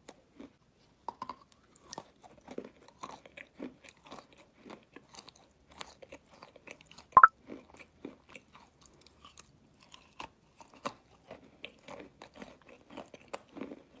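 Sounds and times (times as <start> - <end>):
wet chewing mouth sounds: 0.0 - 14.0.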